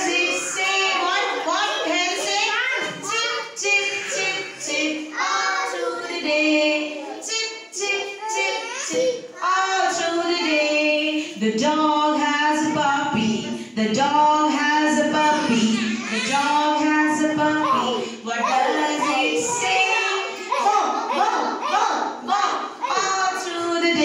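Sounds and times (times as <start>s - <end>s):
children singing along: 0.0s - 13.5s, 14.5s - 24.0s.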